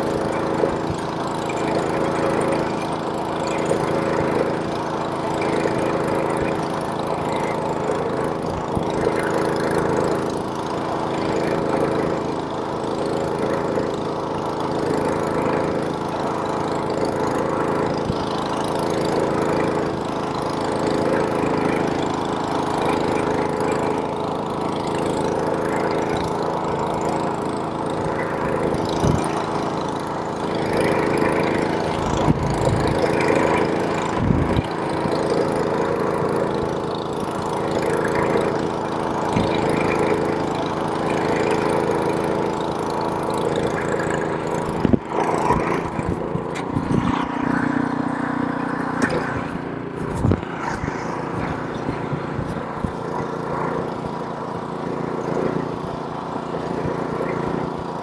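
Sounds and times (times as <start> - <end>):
snowblower engine running: 0.0 - 58.0.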